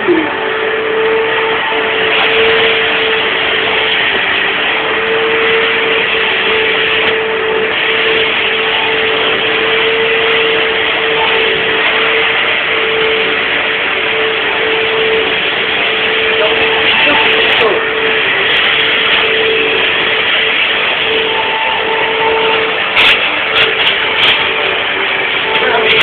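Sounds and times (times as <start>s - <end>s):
vacuum cleaner motor whine: 0.0s - 26.0s.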